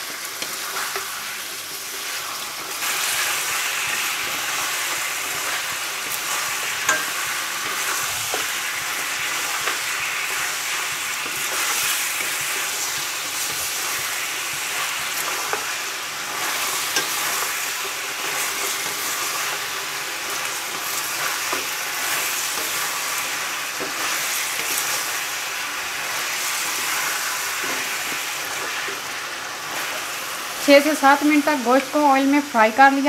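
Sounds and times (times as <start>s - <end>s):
meat sizzling in hot oil: 0.0s - 33.0s.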